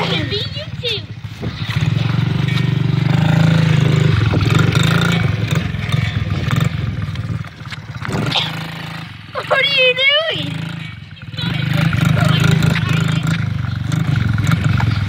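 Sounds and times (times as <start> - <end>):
small motorbike engine revving: 0.0 - 15.0.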